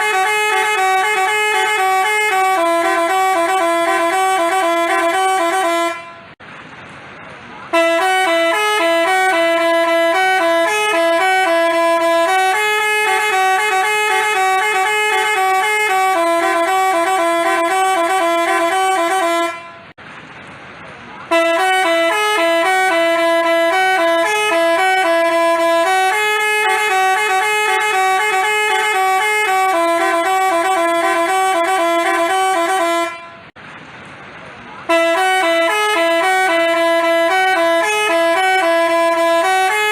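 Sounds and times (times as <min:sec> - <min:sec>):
bus horn playing melody: 0:00.0 - 0:06.4, 0:07.7 - 0:20.0, 0:21.3 - 0:33.6, 0:34.9 - 0:39.9.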